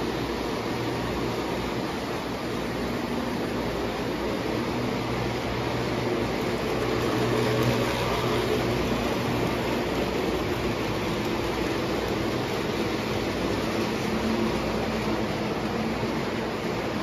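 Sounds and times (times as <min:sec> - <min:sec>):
toy train wheels rumbling on rails: 0:00.0 - 0:17.0.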